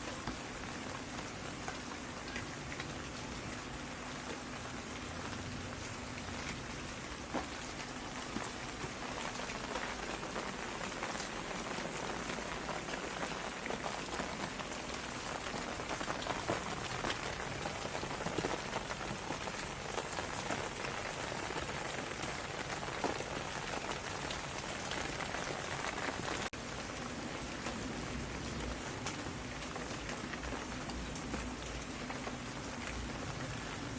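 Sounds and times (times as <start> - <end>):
rain hiss: 0.0 - 33.9
raindrops tapping: 0.0 - 33.9.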